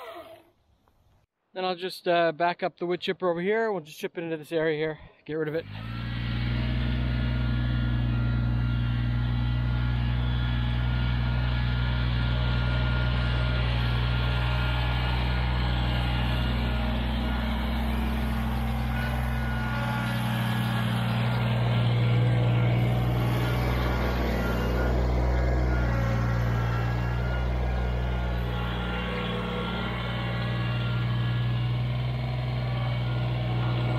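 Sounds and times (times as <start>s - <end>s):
tractor diesel engine running: 5.6s - 33.9s.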